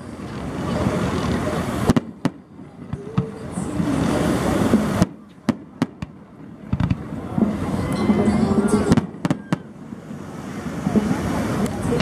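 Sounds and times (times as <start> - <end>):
dense noise: 0.0 - 12.0
fireworks bangs: 0.0 - 12.0.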